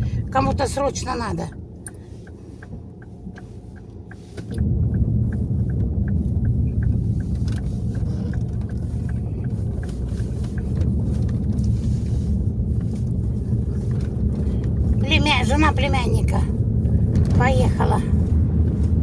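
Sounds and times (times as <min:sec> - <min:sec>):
faint regular ticking: 0:00.0 - 0:17.1
car engine and road rumble: 0:00.0 - 0:19.0.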